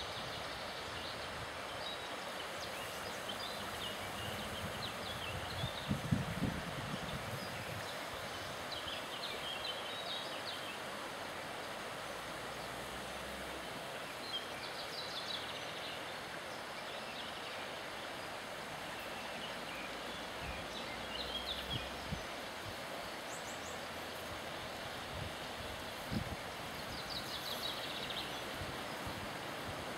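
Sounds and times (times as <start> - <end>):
river rushing: 0.0 - 29.9.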